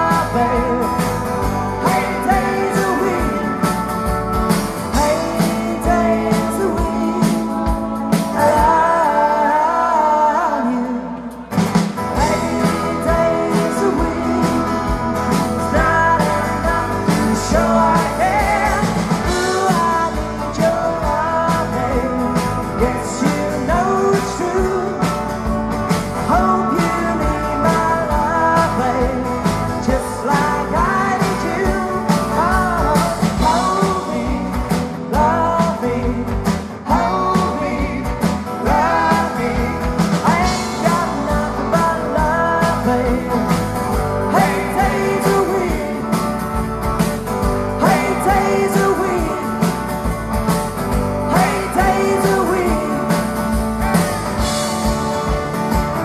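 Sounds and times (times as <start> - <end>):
man singing: 0.0 - 4.1, 4.8 - 11.5, 12.1 - 25.3, 26.1 - 46.4, 47.6 - 49.9, 51.2 - 53.5
live rock band playing: 0.0 - 56.0.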